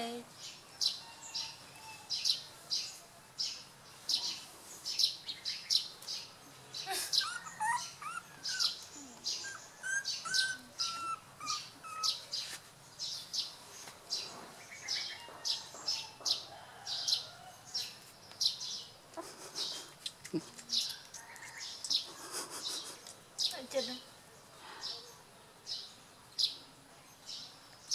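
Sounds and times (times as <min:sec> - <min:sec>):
bird chirping: 0:00.0 - 0:27.9.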